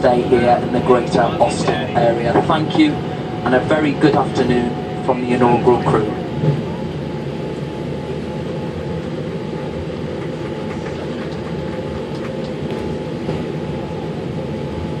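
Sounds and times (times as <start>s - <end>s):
faint steady whine: 0.0s - 15.0s
low airliner cabin rumble: 0.0s - 15.0s.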